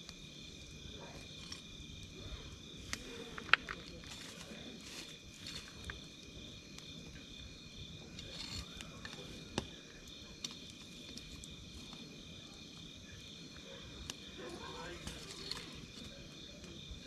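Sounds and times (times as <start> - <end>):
campfire crackling and popping: 0.0 - 17.0
night insects chirping: 0.0 - 17.0.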